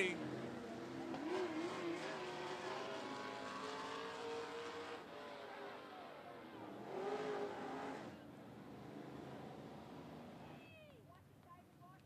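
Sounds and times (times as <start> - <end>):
race car engines running: 0.0 - 10.4.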